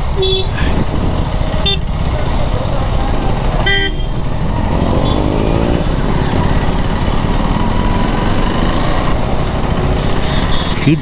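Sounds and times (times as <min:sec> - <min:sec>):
low wind rumble: 0:00.0 - 0:10.8
motorcycle engine accelerating: 0:00.0 - 0:11.0.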